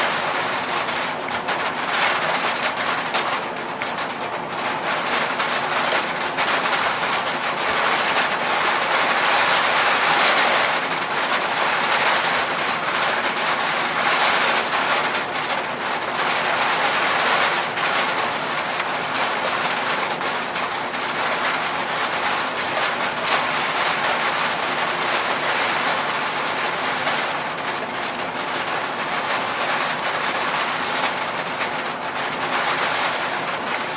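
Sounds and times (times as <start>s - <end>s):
rain on a metal roof: 0.0s - 33.9s.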